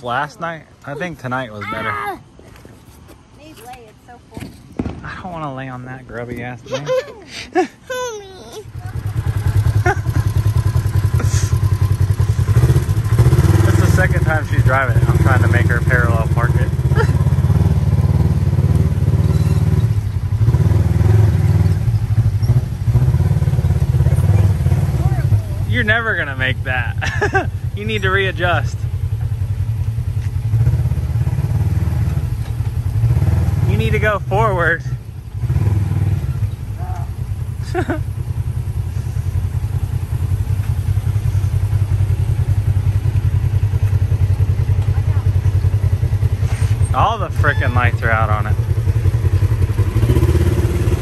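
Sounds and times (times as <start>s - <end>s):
engine rumbling at low speed: 0.0s - 51.0s.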